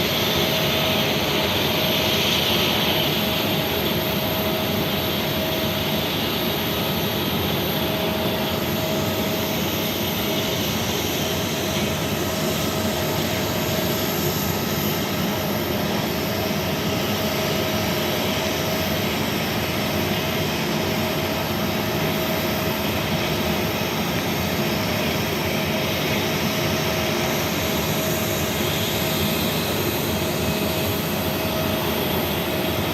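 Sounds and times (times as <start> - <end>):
jet engines droning: 0.0 - 32.9.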